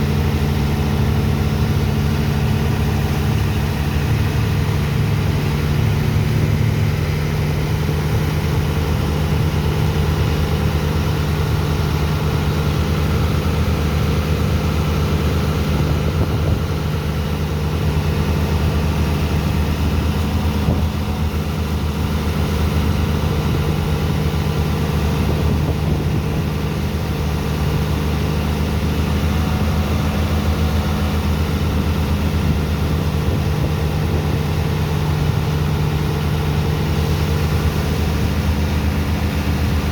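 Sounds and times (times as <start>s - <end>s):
pump engine humming steadily: 0.0s - 39.9s.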